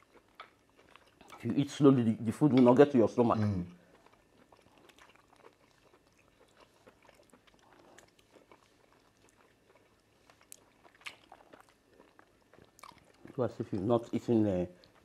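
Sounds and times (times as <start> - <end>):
people chewing: 0.0 - 15.0.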